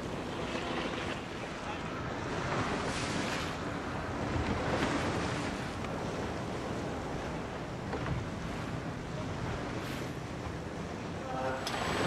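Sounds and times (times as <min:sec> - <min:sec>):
sea waves rushing: 0:00.0 - 0:12.0
wind buffeting microphone: 0:00.0 - 0:12.0.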